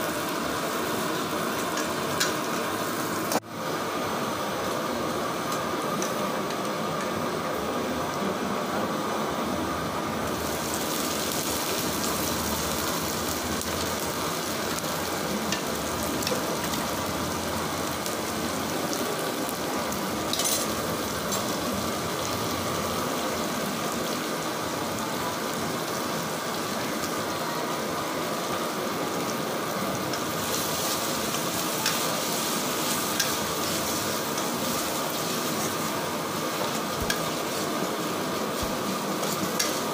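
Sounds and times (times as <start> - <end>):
vegetables sizzling in hot oil: 0.0 - 8.2, 8.9 - 39.9.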